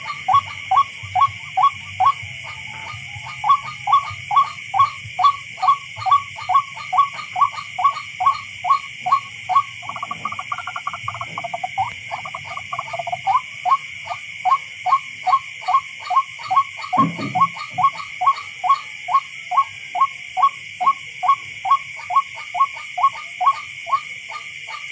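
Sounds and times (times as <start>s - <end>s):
rail bird calling: 0.0s - 24.0s.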